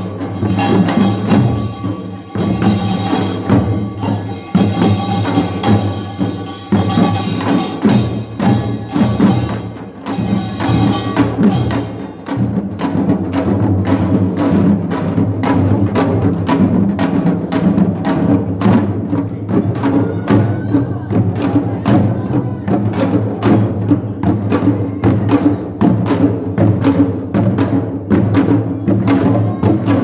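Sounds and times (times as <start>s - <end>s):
percussion band playing: 0.0s - 30.0s.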